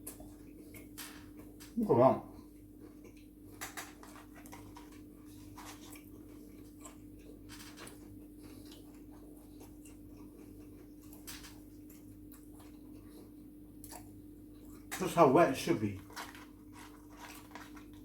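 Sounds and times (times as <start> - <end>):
chewing fried chicken: 0.0 - 18.0
steady low hum: 0.0 - 18.0.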